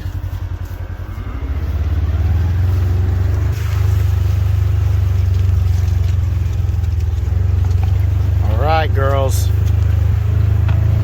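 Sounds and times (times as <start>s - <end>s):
vehicle engine throbbing: 0.0s - 11.0s.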